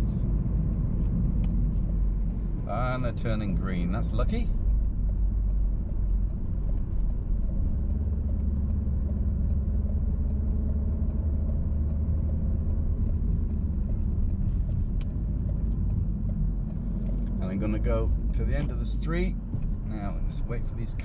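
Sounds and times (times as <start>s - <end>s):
engine and tyre road rumble: 0.0s - 21.0s
faint regular tick: 1.0s - 21.0s.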